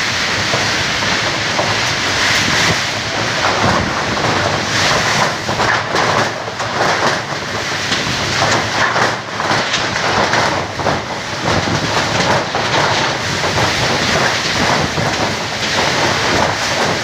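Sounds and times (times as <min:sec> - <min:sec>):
heavy rain: 0:00.0 - 0:17.0
storm wind: 0:00.0 - 0:17.0.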